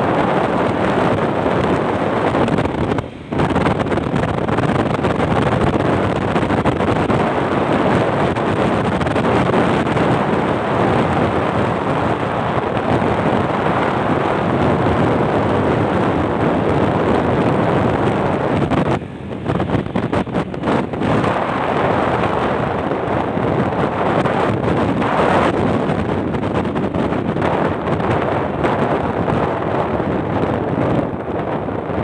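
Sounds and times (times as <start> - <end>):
motorbike road and engine noise: 0.0 - 32.0
wind rushing over microphone: 0.0 - 32.0.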